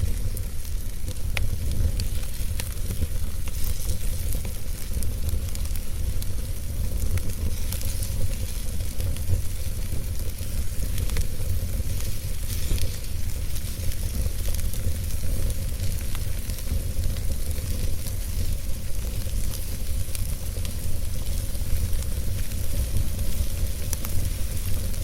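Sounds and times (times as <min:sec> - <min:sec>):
fire rumbling in a fireplace: 0:00.0 - 0:25.0
wood crackling and popping: 0:00.0 - 0:25.0.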